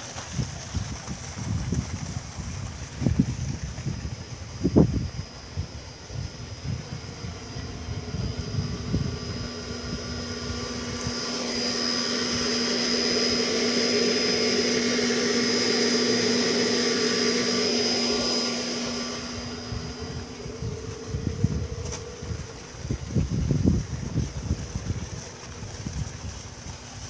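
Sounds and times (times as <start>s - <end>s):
electric pump motor humming: 0.0s - 27.0s
wind buffeting microphone: 0.2s - 27.0s.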